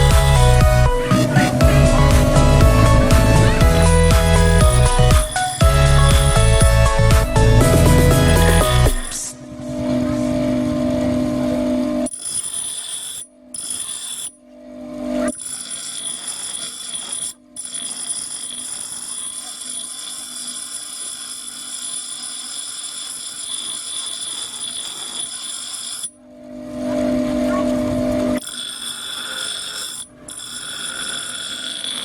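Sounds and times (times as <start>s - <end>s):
power tool high-pitched whine: 0.0s - 32.0s.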